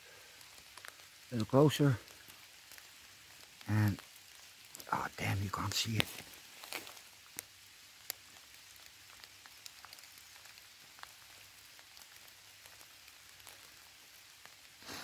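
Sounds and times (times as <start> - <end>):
light rain hiss: 0.0 - 15.0
raindrops ticking: 0.0 - 15.0.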